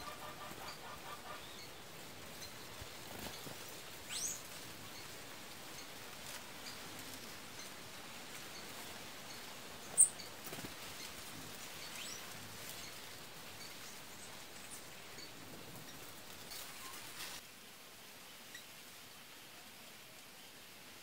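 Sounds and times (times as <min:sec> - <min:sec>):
faint outdoor hiss: 0:00.0 - 0:21.0.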